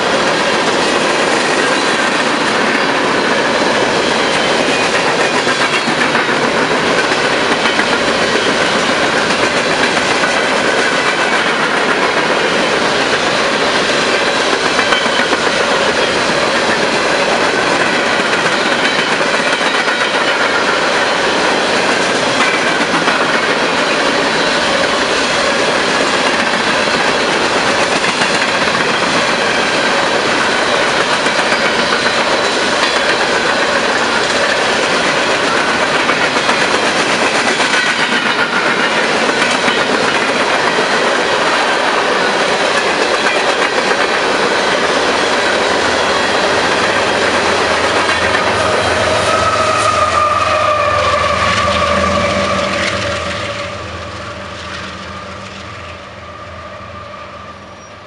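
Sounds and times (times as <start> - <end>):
wheels clickety-clack over rails: 0.0 - 56.0
freight train rumbling past: 0.0 - 58.0.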